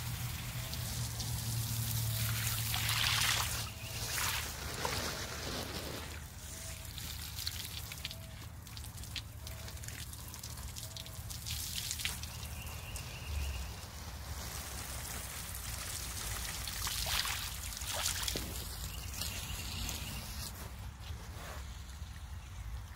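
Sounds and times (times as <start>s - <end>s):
water splashing and trickling: 0.0s - 21.0s
water spraying from hose: 0.0s - 21.4s.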